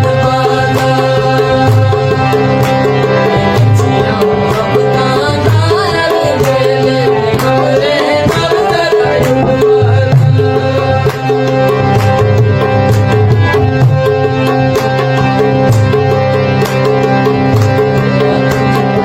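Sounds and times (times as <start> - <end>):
drums keeping a beat: 0.0 - 19.0.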